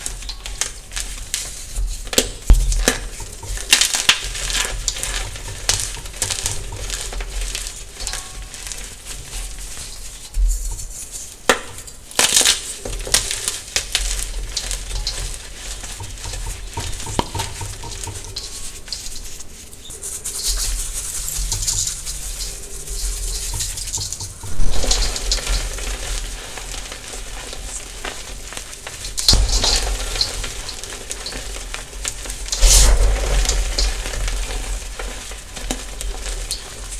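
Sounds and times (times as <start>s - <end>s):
chalk crunching and crackling: 0.0s - 36.9s.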